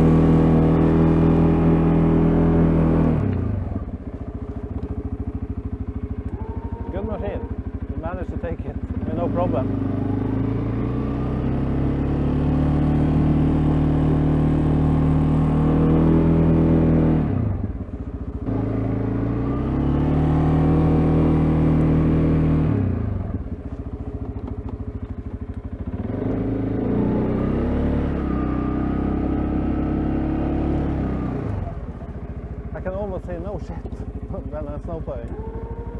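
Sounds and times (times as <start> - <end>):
atv engine running: 0.0 - 35.9.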